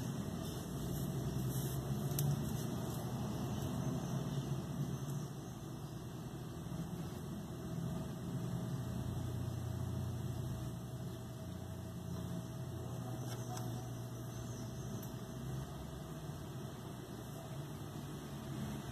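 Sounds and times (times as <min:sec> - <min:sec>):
low background hum: 0:00.0 - 0:18.9.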